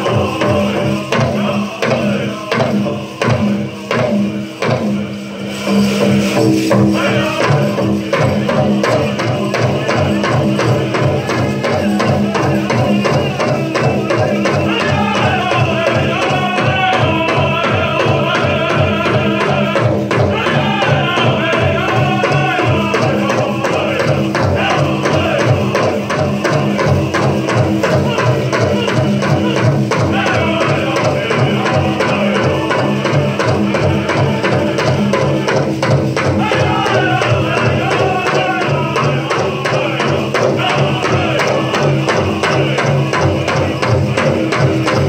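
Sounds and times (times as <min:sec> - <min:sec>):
high-pitched group singing: 0:00.0 - 0:45.0
metal jingle cones shaking: 0:00.0 - 0:45.0
steady drumbeat: 0:00.0 - 0:45.0.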